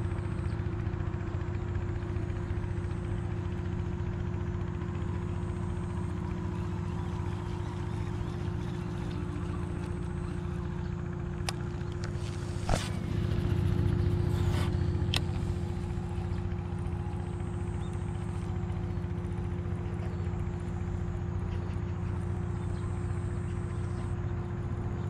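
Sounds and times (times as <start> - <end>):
constant hum: 0.0 - 25.0
engine running with pulsing drone: 0.0 - 25.0.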